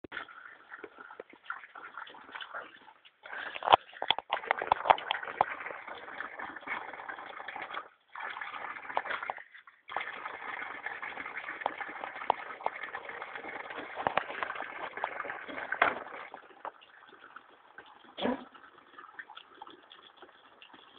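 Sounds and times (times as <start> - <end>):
water splashing in a bucket: 0.0 - 20.9.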